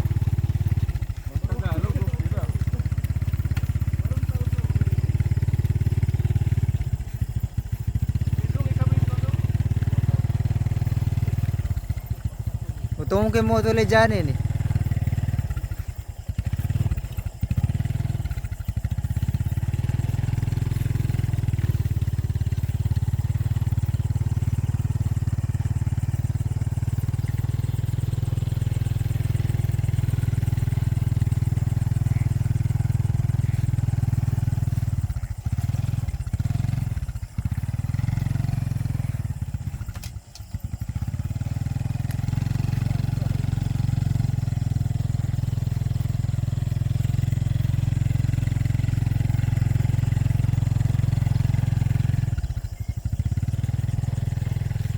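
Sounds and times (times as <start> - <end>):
small motorcycle engine running: 0.0 - 54.9.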